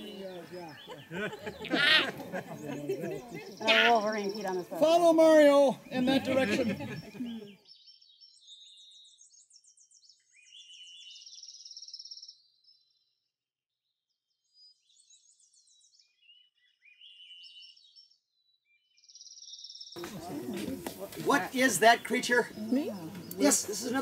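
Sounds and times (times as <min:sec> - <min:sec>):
songbird singing trills: 0:00.0 - 0:05.0, 0:05.7 - 0:12.9, 0:14.4 - 0:20.8, 0:21.4 - 0:24.0.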